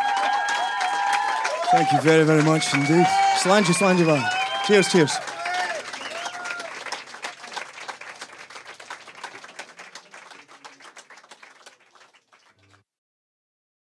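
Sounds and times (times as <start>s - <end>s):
audience clapping: 0.0s - 12.8s.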